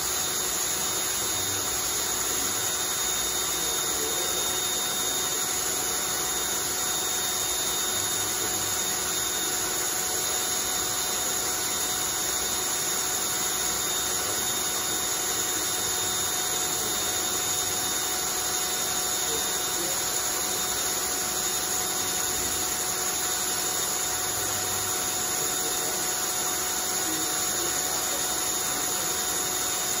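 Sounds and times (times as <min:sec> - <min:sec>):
cordless drill motor whine: 0:00.0 - 0:30.0.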